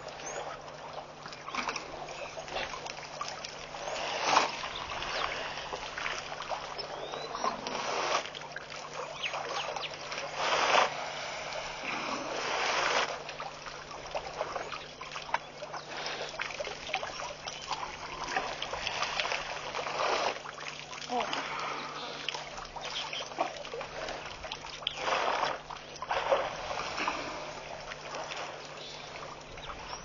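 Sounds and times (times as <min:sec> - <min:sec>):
water splashing and dribbling: 0:00.0 - 0:30.0.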